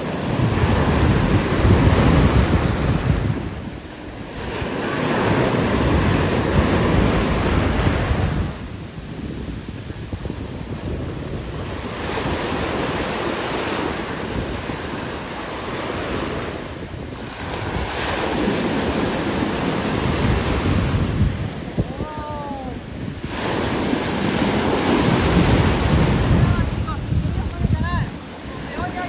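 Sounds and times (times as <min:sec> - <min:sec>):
sea waves breaking: 0:00.0 - 0:29.0
wind buffeting microphone: 0:00.0 - 0:29.0.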